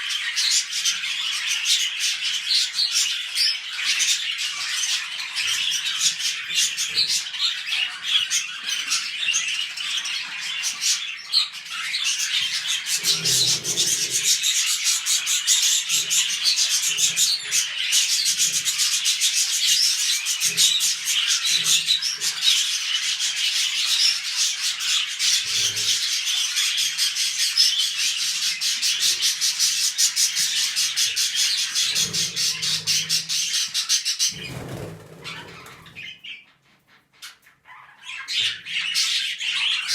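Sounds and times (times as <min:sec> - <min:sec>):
budgerigars warbling and chattering: 0:00.0 - 0:39.9.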